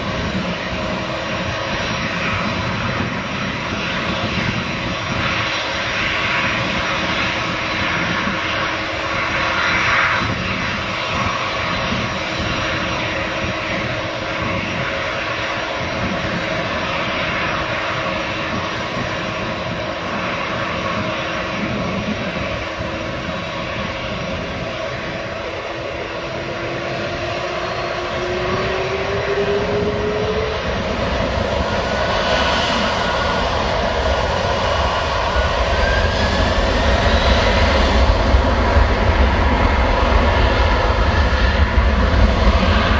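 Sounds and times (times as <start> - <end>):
jet airliner engines rushing: 0.0 - 42.9.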